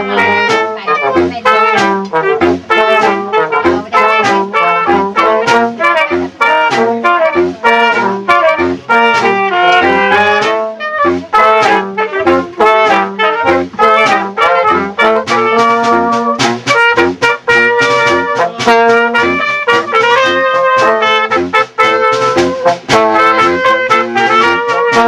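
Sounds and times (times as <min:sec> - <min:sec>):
bass line: 0:00.0 - 0:25.0
clarinet: 0:00.0 - 0:25.0
drum strokes: 0:00.0 - 0:25.0
saxophone: 0:00.0 - 0:25.0
trombone: 0:00.0 - 0:25.0
trumpet: 0:00.0 - 0:25.0.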